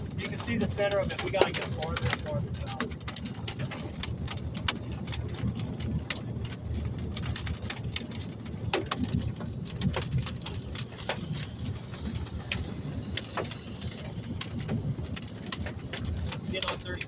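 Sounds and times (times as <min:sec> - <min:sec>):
car driving rumble: 0:00.0 - 0:17.0
raindrops tapping on car: 0:00.0 - 0:17.0.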